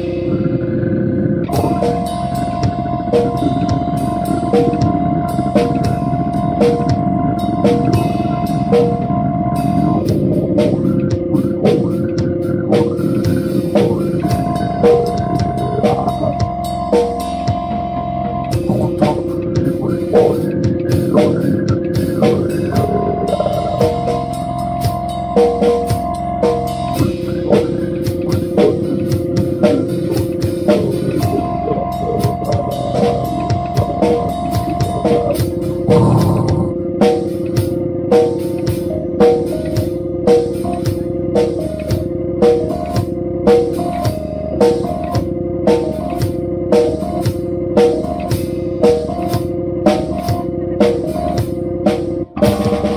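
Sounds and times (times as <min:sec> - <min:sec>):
drum kit steady beat: 0:00.0 - 0:00.6, 0:01.4 - 0:52.9
instrumental rock music: 0:00.0 - 0:52.9
long held chords: 0:00.0 - 0:52.9.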